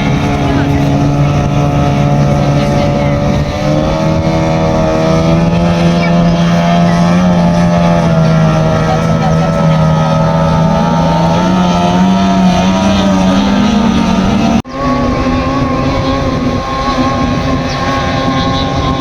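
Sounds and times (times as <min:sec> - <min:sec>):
powerboat engine running: 0:00.0 - 0:19.0.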